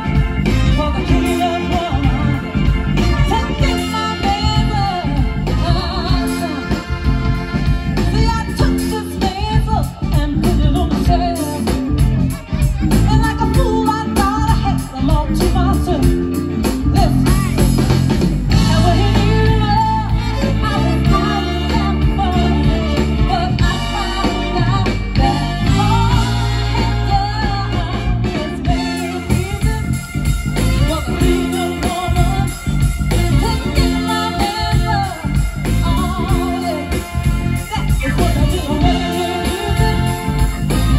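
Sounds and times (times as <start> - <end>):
woman singing into a microphone: 0.0 - 12.2, 12.9 - 17.8, 18.5 - 40.9
guitar: 0.0 - 40.9
live band playing: 0.0 - 40.9.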